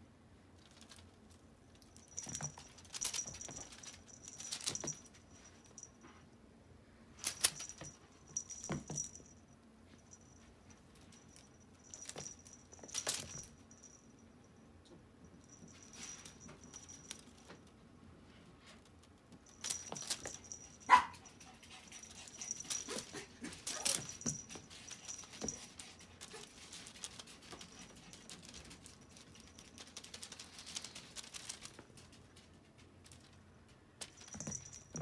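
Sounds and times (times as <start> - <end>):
kitten scuffling and rustling: 0.6 - 6.2, 7.2 - 14.0, 18.3 - 35.0.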